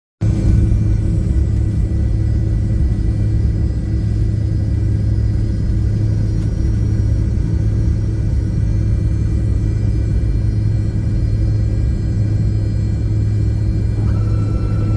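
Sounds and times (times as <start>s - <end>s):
airliner cabin engine rumble: 0.2s - 14.9s
faint steady whines: 0.2s - 14.9s.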